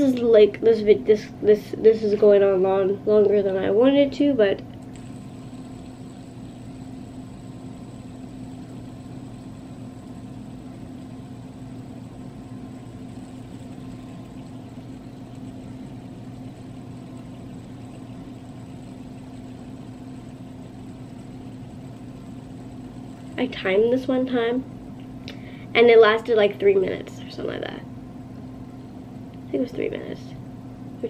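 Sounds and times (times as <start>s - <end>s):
faint high whine: 0.0s - 30.4s
low mechanical hum: 0.0s - 31.0s.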